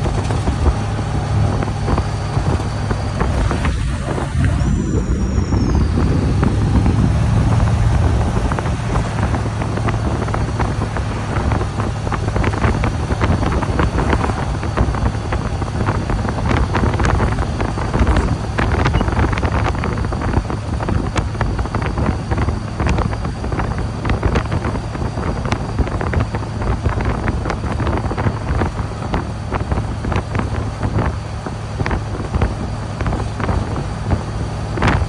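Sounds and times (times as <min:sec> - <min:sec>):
vehicle hum and rumble: 0:00.0 - 0:35.0
wind buffeting microphone: 0:00.0 - 0:35.0.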